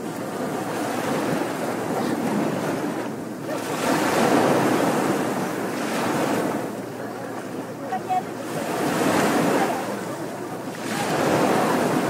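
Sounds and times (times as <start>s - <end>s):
ocean surf breaking on beach: 0.0s - 12.0s.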